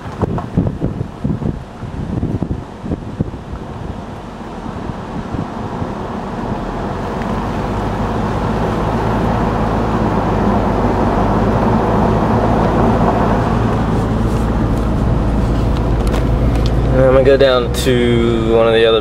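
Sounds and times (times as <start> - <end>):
car engine hum and road noise: 0.0 - 19.0.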